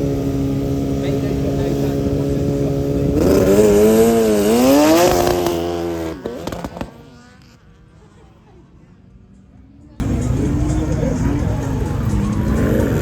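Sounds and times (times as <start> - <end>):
racing engine at high revs: 0.0 - 13.0.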